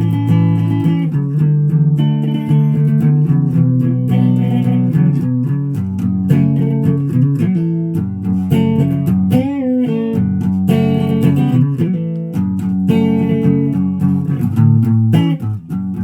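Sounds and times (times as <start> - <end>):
guitar music plucked: 0.0 - 16.0.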